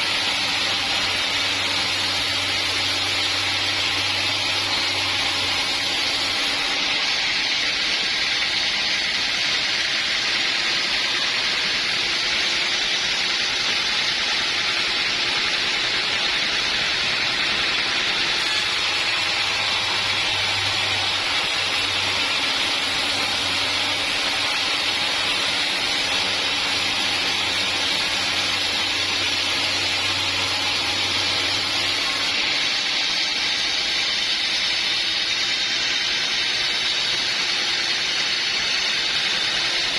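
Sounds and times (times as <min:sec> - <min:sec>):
sawmill hissing: 0:00.0 - 0:39.9.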